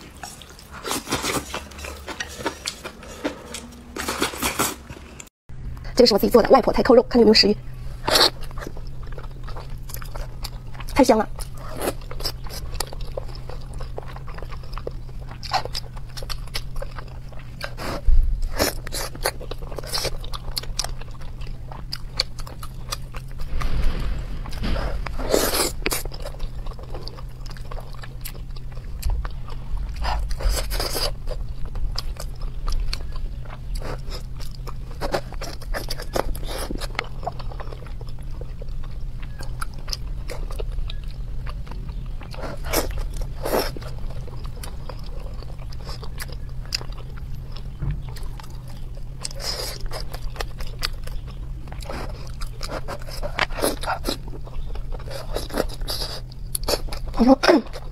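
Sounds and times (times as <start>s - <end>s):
person chewing: 0.0s - 5.3s, 8.0s - 57.9s.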